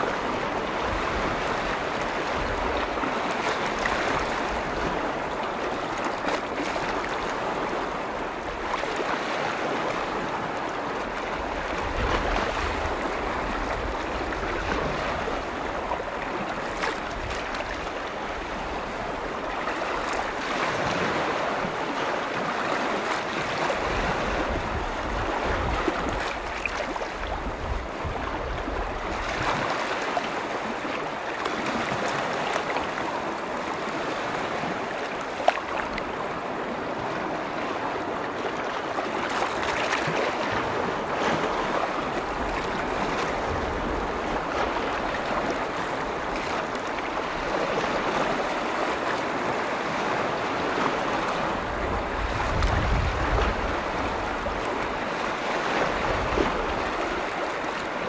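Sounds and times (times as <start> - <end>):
wind rumble on microphone: 0.0 - 35.1, 35.7 - 58.0
lake waves lapping on shore: 0.0 - 58.0.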